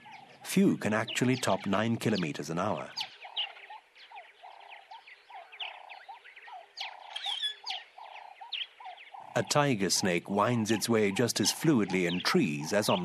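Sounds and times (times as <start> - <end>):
lower repeating bird call: 0.0 - 13.0.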